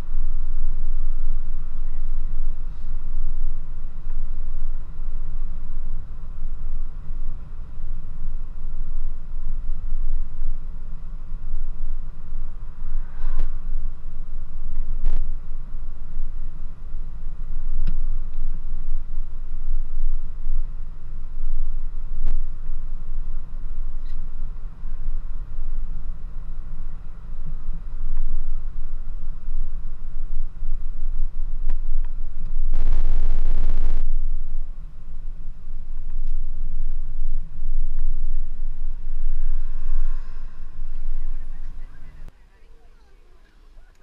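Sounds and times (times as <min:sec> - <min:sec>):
car road and engine rumble: 0:00.0 - 0:44.0.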